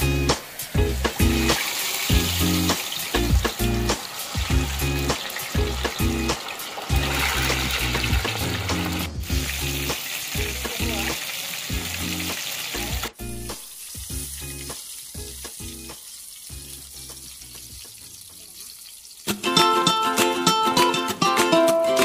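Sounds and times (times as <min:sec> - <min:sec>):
fish deep-frying in oil: 0:00.0 - 0:19.4.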